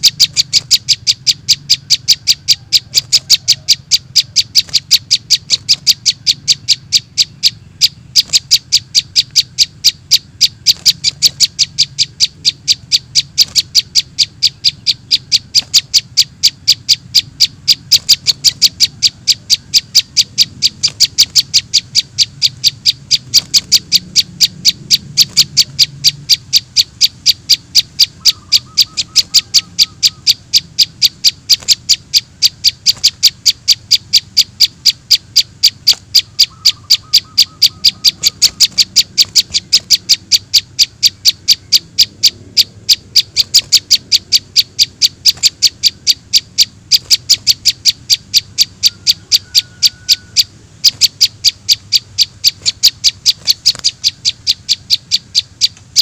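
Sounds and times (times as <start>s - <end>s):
high bird chirps: 0.0s - 56.0s.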